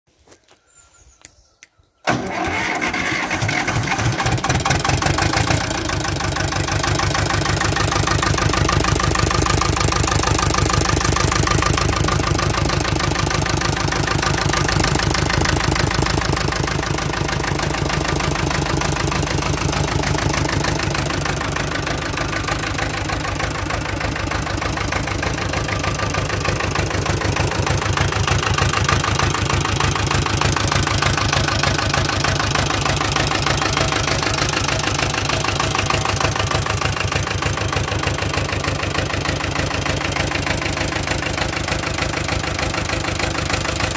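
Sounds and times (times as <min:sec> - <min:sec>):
tractor diesel engine running: 0:02.0 - 0:43.9.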